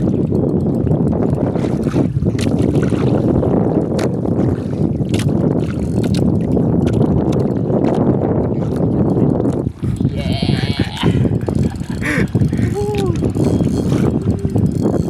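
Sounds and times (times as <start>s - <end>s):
small boat engine rumble: 0.0s - 15.0s
wind buffeting microphone: 0.0s - 15.0s.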